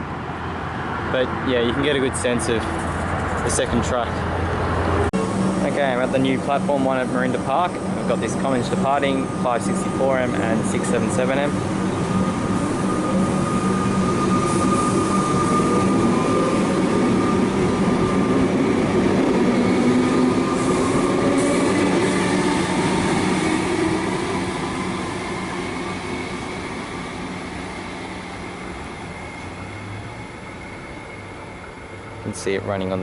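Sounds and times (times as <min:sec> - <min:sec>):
electric train motors whining: 0:04.6 - 0:32.4.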